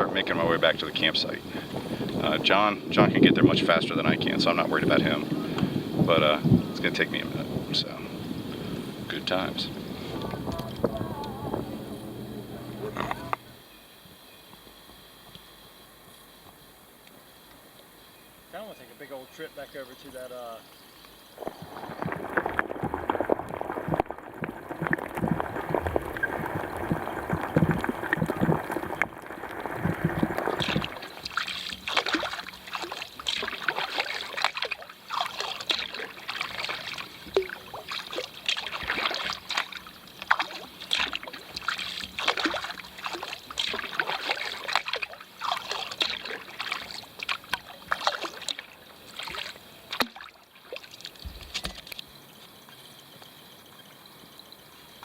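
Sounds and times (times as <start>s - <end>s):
paddle splashing water: 0.0s - 13.6s, 21.4s - 52.1s
water rushing: 0.0s - 13.6s, 21.3s - 52.8s.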